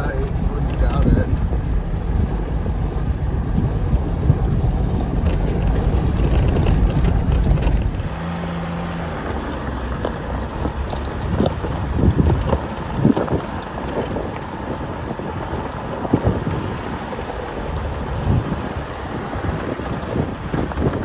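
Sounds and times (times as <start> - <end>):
engine and tyre rumble: 0.0 - 21.0
wind on microphone: 0.0 - 21.0.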